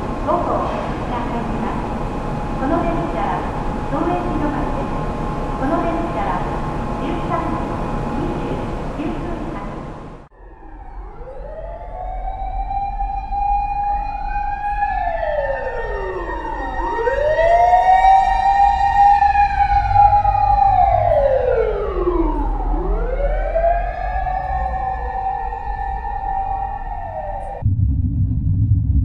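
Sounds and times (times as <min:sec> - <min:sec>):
mechanical wailing sirens: 0:00.0 - 0:27.7.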